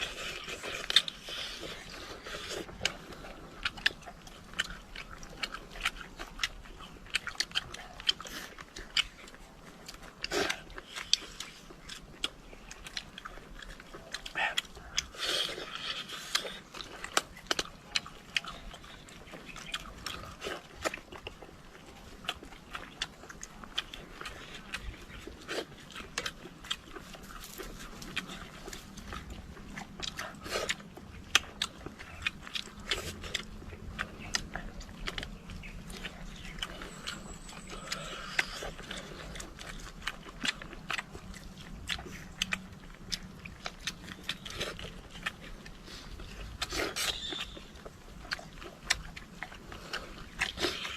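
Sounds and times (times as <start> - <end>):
people chewing crunchy food: 0.0 - 50.9.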